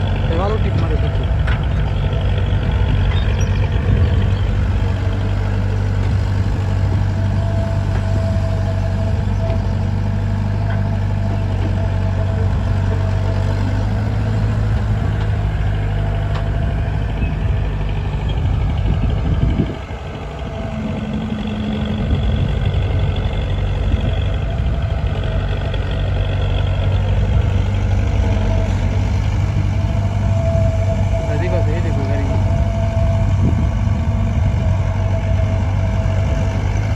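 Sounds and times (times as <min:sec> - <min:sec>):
diesel engines running: 0:00.0 - 0:36.9.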